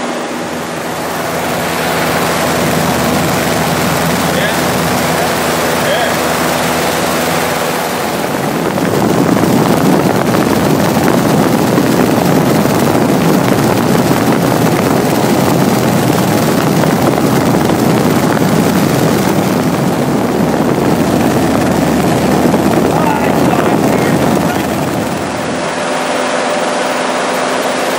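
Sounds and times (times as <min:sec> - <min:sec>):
aircraft engine droning: 0:00.0 - 0:27.9.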